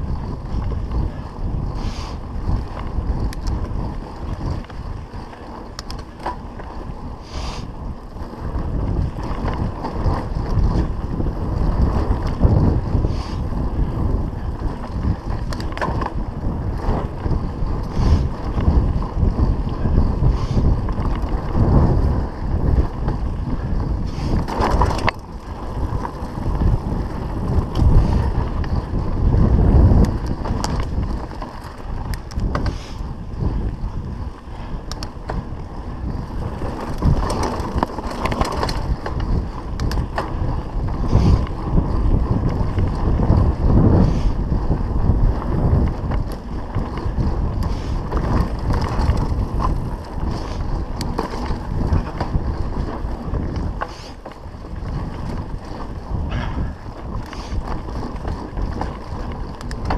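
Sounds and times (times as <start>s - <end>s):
bike rattling and knocking: 0.0s - 59.9s
wind buffeting microphone: 0.0s - 59.9s
tyres humming on dirt: 0.1s - 59.9s.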